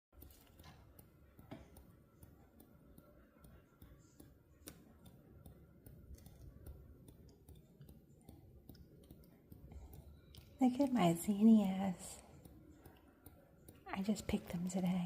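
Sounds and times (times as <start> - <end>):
faint irregular clicks: 0.2 - 15.0.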